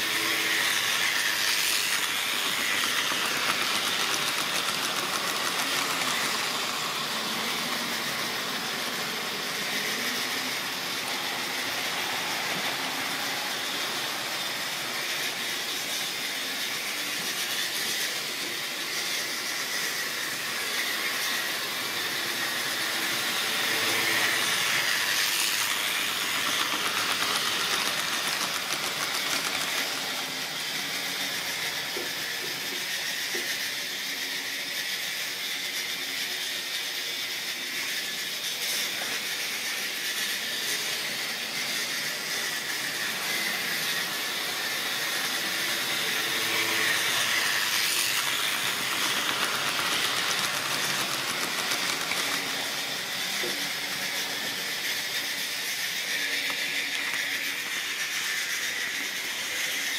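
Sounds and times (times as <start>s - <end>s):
model train motor and wheels whirring: 0.0s - 59.9s.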